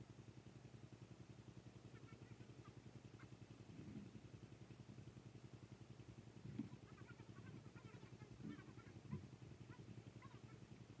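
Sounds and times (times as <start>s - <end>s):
engine running faintly: 0.0s - 11.0s.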